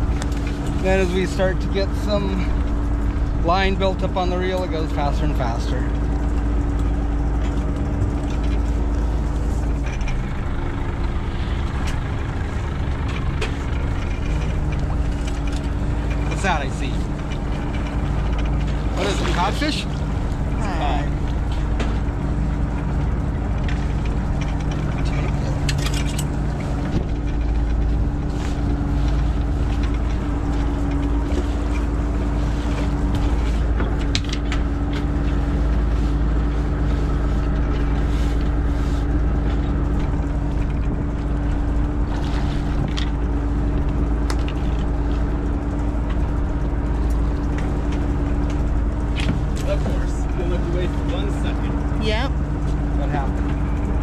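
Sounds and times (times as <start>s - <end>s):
boat engine drone: 0.0s - 54.0s
hydraulic hauler hum: 0.0s - 54.0s
light clicks and knocks of gear: 0.0s - 54.0s.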